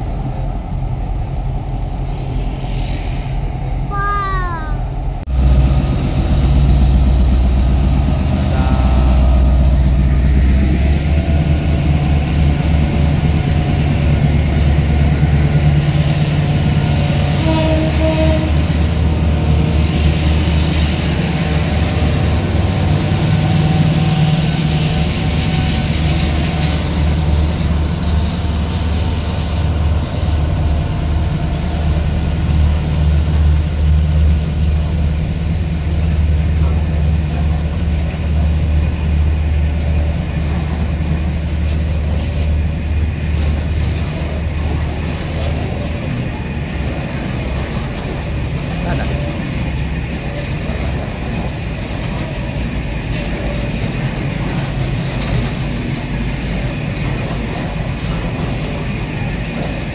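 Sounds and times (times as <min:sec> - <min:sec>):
diesel locomotive engine drone: 0:00.0 - 0:59.9
train wheels clattering on rails: 0:09.7 - 0:59.9.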